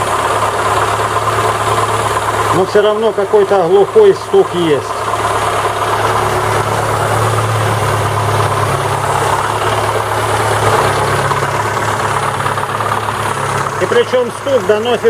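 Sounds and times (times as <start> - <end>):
car engine idling: 0.0 - 15.0
dull knocking in engine: 0.0 - 15.0.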